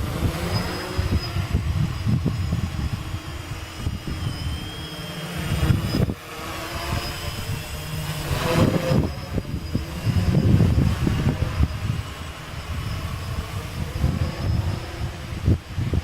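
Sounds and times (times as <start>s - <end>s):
quadcopter motors whining: 0.0s - 16.0s
wind buffeting microphone: 0.0s - 16.0s.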